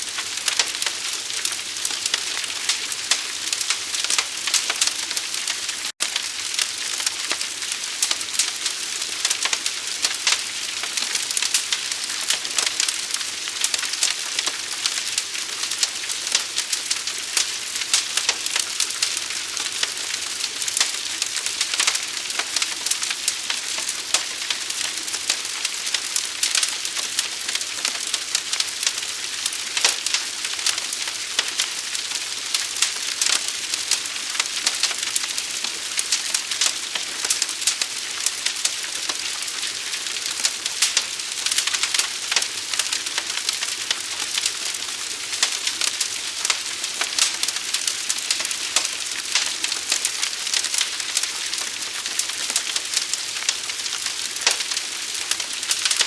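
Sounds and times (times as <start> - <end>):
fire crackling and popping: 0.0 - 56.0
steady hiss of fire: 0.0 - 56.0.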